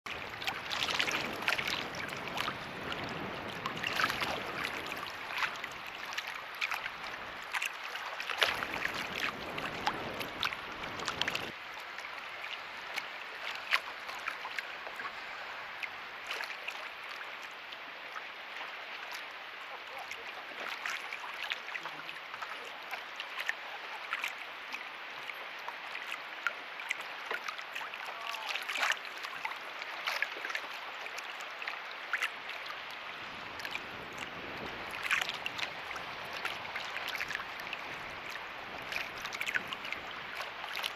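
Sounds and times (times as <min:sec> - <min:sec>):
waves lapping and splashing: 0:00.1 - 0:40.9.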